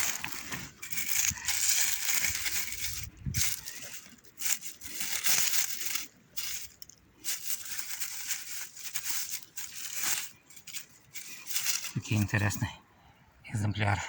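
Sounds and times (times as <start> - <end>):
dry forest litter crunching: 0.0 - 12.5.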